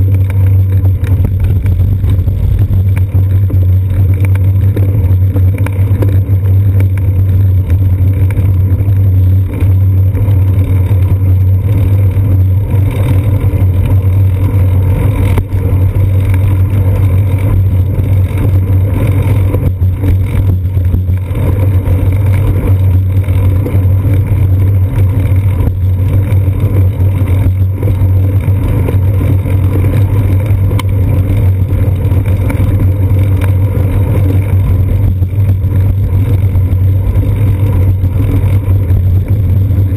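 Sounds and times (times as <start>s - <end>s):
bicycle riding on concrete rumble: 0.0s - 39.9s
wind: 0.0s - 39.9s.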